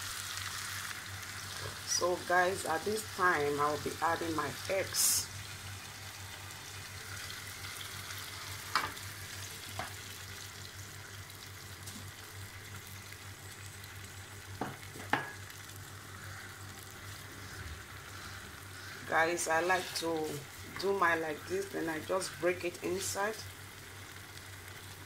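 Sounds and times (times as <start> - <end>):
sauce sizzling in a frying pan: 0.0 - 25.0.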